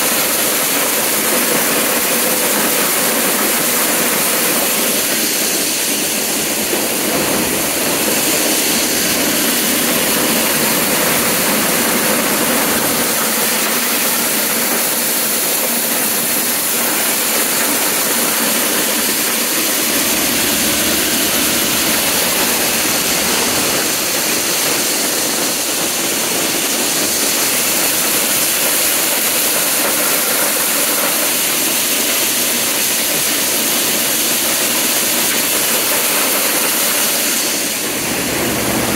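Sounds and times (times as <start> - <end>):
corn sheller running: 0.0 - 38.9.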